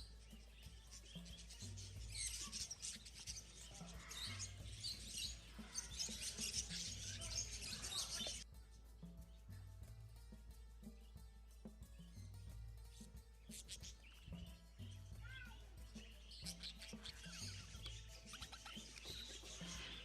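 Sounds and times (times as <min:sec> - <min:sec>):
music with low bass pattern: 0:00.0 - 0:20.0
small birds chirping: 0:00.0 - 0:20.0.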